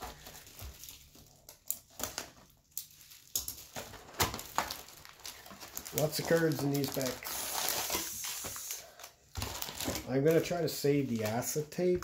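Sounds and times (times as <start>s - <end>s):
wrapped packs crinkling: 0.0s - 12.0s.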